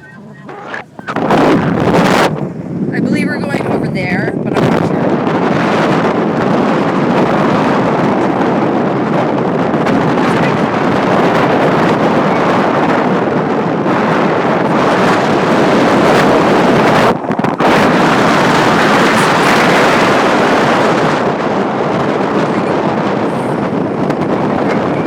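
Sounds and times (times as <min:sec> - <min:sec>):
boat running noise: 0:00.0 - 0:25.0
wind buffeting microphone: 0:00.0 - 0:25.0.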